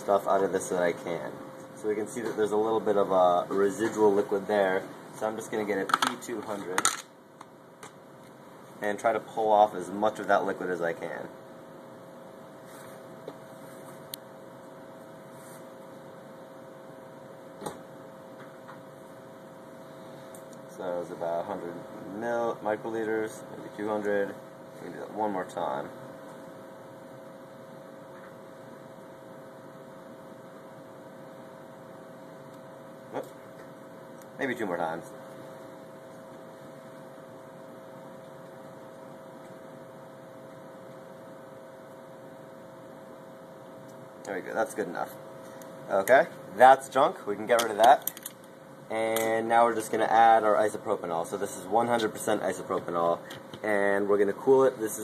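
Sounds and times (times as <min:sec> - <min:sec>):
lab equipment humming: 0:00.0 - 0:55.0.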